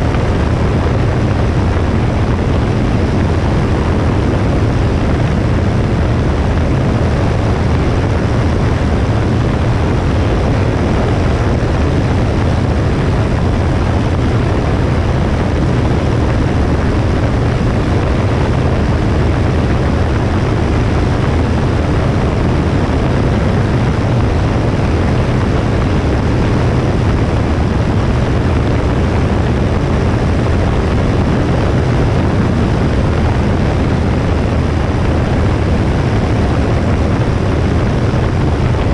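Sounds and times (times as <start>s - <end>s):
propeller plane engine droning: 0.0s - 38.9s
rushing air: 0.0s - 38.9s.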